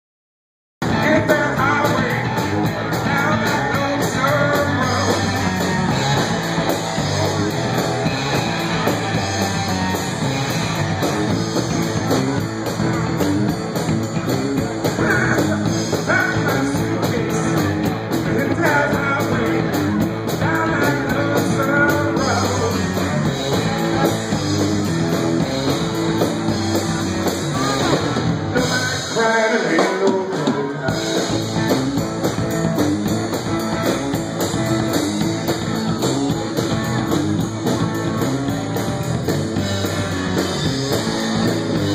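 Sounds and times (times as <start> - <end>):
drum kit playing: 0.8 - 41.9
electric bass: 0.8 - 41.9
electric guitar: 0.8 - 41.9.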